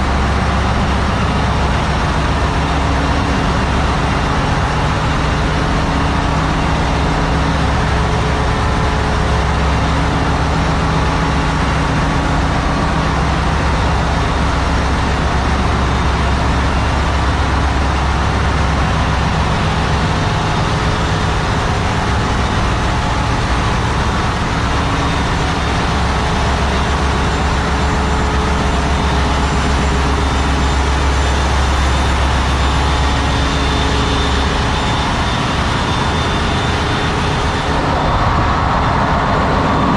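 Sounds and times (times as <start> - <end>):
engine-room machinery din: 0.0 - 39.9.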